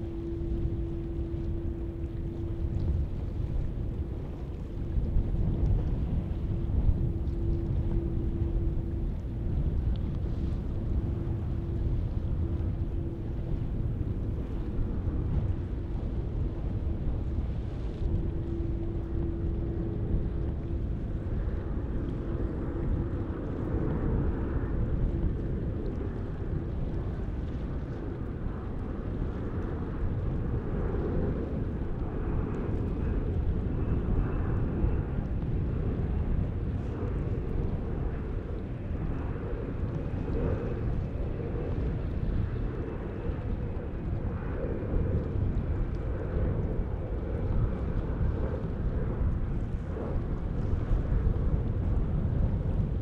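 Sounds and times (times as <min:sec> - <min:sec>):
faint high whine: 0:00.0 - 0:52.0.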